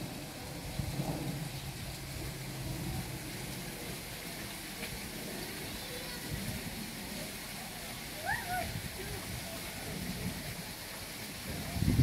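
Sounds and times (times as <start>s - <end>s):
rushing hiss: 0.0s - 12.0s.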